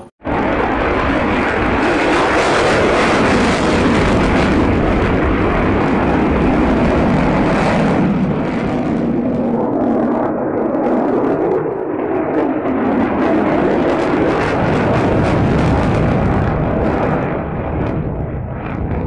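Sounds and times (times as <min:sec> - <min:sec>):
fighter jet engines roaring: 0:00.0 - 0:19.0.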